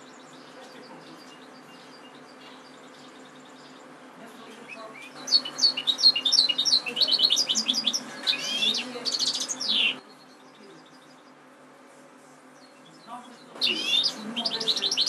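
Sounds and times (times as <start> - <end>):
goldfinch singing: 0.0 - 11.4, 12.6 - 15.0.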